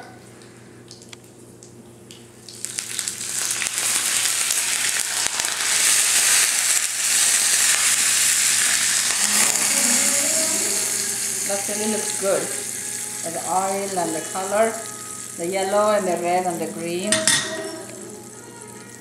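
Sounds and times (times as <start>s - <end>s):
leaves sizzling in hot oil: 2.5s - 19.0s.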